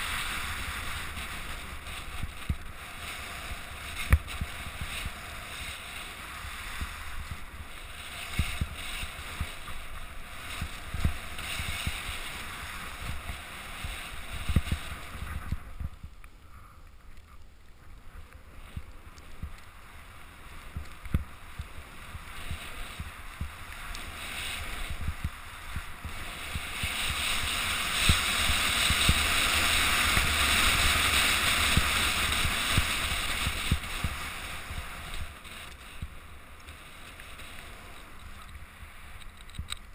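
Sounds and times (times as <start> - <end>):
wind on microphone: 0.0 - 16.2, 17.1 - 39.9
skis sliding over snow: 0.0 - 39.9.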